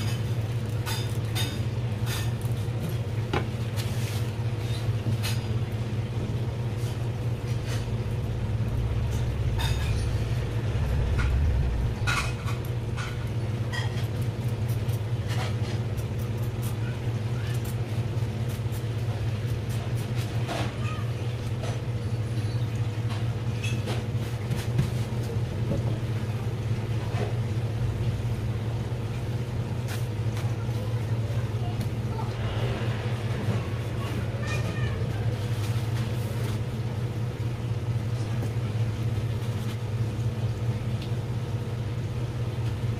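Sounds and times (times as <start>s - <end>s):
low motor hum: 0.0s - 42.9s.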